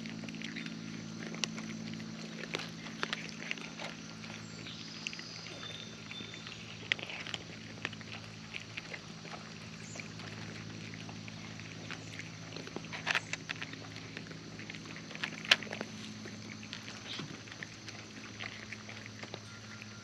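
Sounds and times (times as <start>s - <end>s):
cats licking and chewing: 0.0s - 20.0s
steady low hum: 0.0s - 20.0s.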